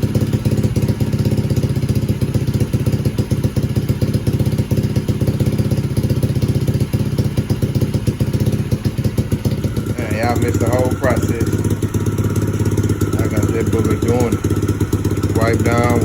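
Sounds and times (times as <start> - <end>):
dirt bike engine idling: 0.0 - 16.0.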